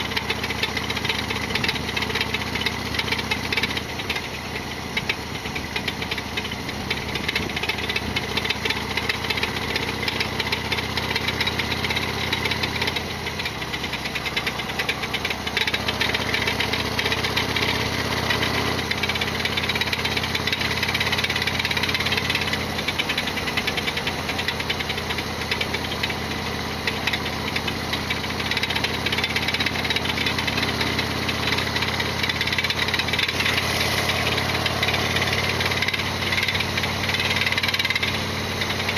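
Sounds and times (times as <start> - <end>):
loud mechanical rattling clatter: 0.0 - 38.9
motorcycle engine running: 0.0 - 38.9.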